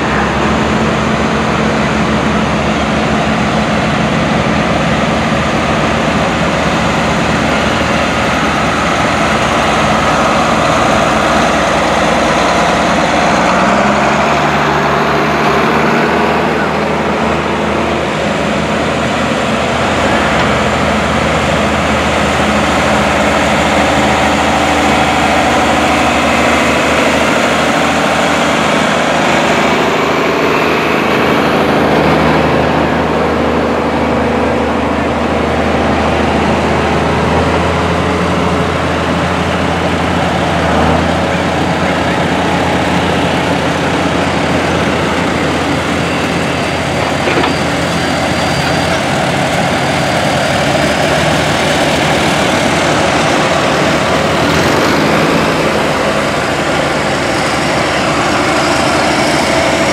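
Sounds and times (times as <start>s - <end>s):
diesel tractor passing close: 0.0s - 59.9s
tractor engines running: 0.0s - 59.9s.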